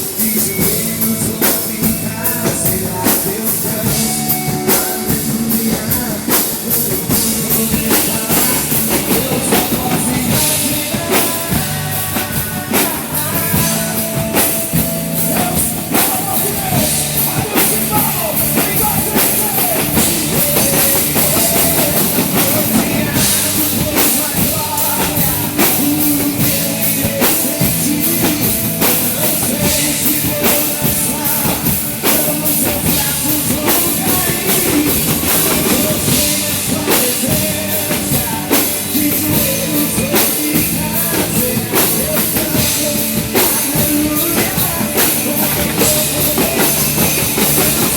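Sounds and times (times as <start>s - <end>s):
drum kit beat: 0.0s - 47.9s
live rock band playing: 0.0s - 47.9s.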